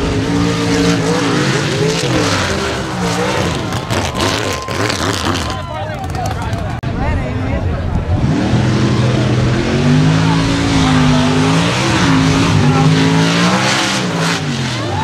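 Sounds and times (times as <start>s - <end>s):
pickup truck engine revving: 0.0s - 6.8s, 8.0s - 15.0s.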